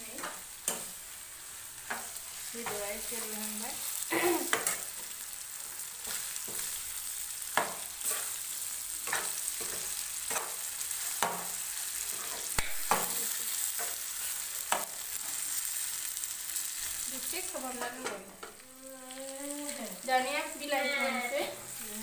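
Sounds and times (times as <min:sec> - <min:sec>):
chicken sizzling in a wok: 0:00.0 - 0:22.0.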